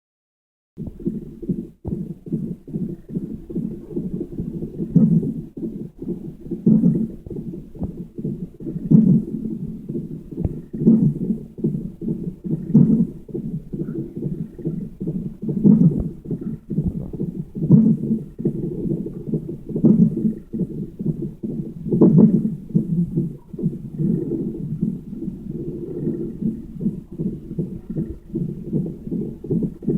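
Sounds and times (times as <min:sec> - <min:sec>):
whooshing heartbeat: 0:00.8 - 0:29.9.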